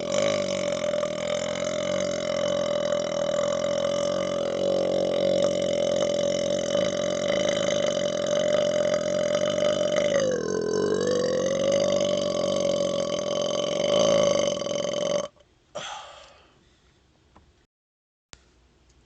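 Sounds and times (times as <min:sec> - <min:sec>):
man's long burp: 0:00.0 - 0:16.1.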